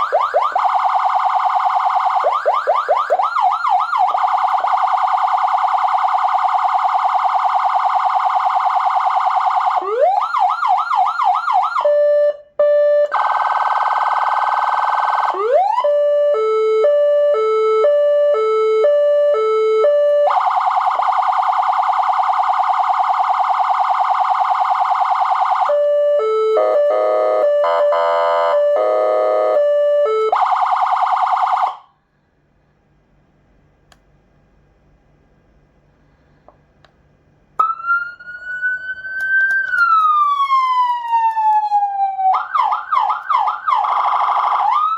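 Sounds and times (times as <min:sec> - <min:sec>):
electronic siren switching tones: 0:00.0 - 0:31.8, 0:37.6 - 0:44.9.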